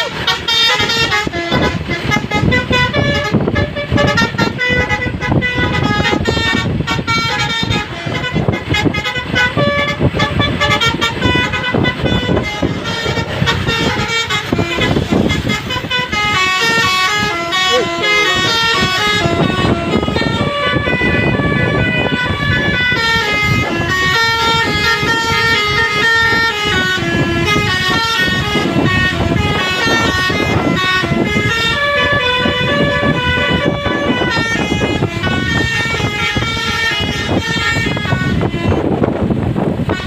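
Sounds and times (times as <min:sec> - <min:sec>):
bus multi-tone horn melody: 0:00.0 - 0:40.0.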